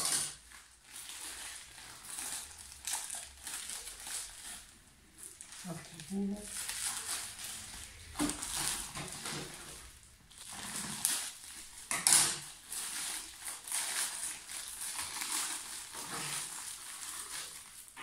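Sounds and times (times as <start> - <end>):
plastic packets crinkling: 0.0 - 18.0.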